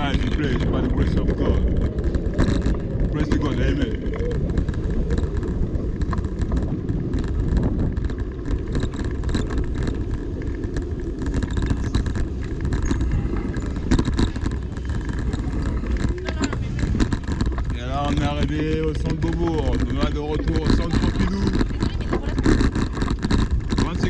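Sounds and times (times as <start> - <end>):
passing traffic: 0.0 - 24.0
wind rumble on microphone: 0.0 - 24.0.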